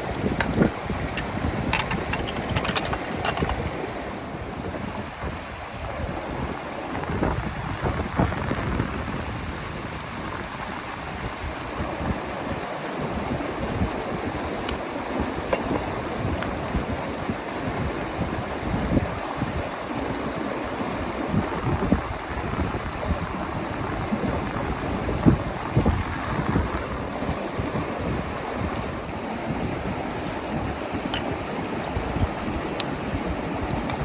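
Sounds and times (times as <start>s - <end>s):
river water flowing: 0.0s - 7.0s, 9.7s - 34.0s
wind gusting on microphone: 0.0s - 34.0s.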